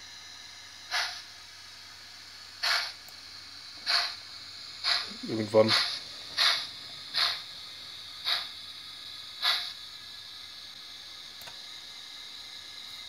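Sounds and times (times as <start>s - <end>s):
steady steam hiss: 0.0s - 13.0s
steam locomotive chuffs: 0.0s - 13.0s.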